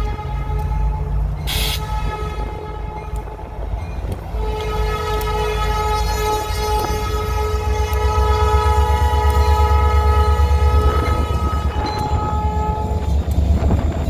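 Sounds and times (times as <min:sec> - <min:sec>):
locomotive air horn: 0:00.0 - 0:03.0, 0:04.3 - 0:13.8
diesel locomotives rumbling: 0:00.0 - 0:14.0.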